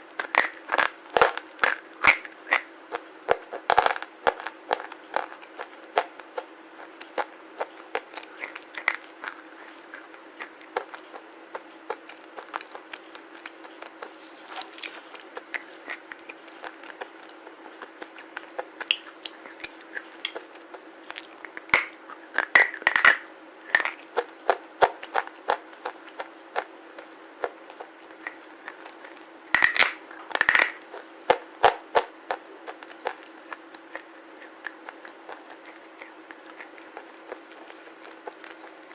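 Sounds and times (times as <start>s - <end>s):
gritty crunches of biting: 0.0s - 38.9s.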